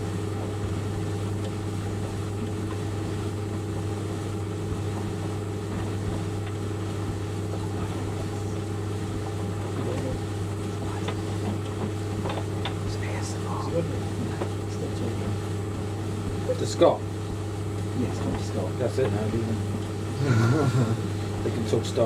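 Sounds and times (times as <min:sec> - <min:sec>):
tumble dryer humming: 0:00.0 - 0:22.0.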